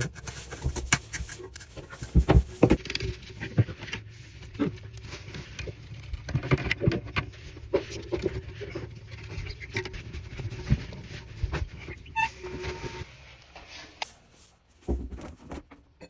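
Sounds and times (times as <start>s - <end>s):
hand tools tapping and scraping: 0.0s - 14.1s.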